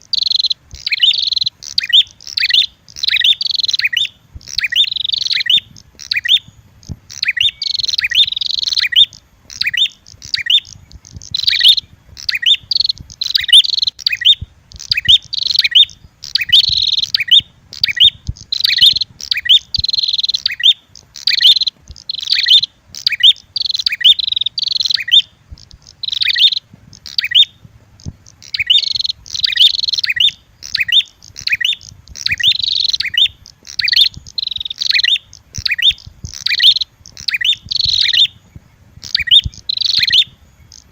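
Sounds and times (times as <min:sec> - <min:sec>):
fast sharp bird chirping: 0:00.0 - 0:40.9.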